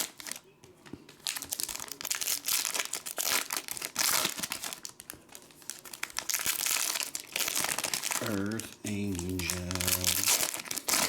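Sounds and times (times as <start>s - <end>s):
plastic wrapper crinkling and tearing: 0.0s - 0.5s, 1.1s - 11.0s.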